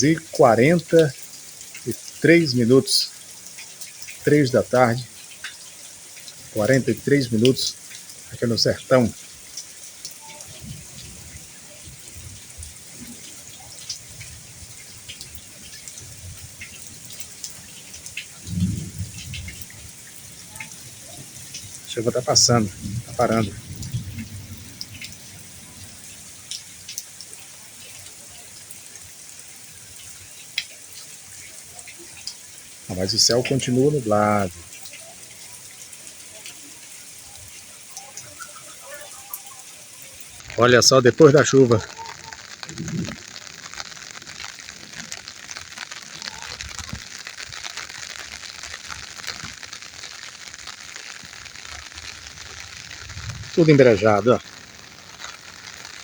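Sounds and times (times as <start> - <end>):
light rain pattering: 0.0 - 56.0.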